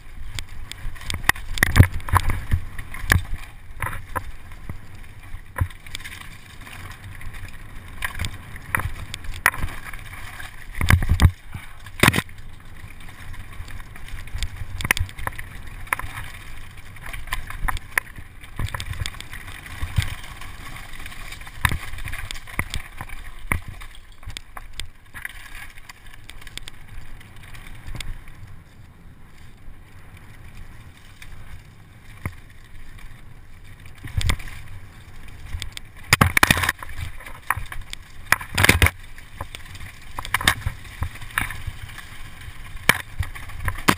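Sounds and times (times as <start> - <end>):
bike knocking and rattling: 0.0 - 28.8, 30.2 - 43.9.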